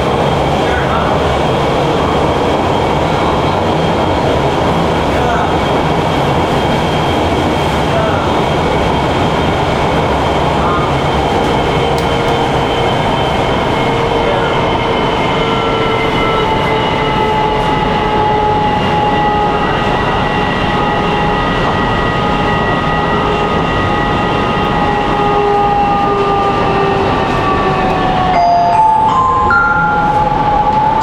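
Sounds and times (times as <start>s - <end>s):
train wheel and rail noise: 0.0s - 31.0s.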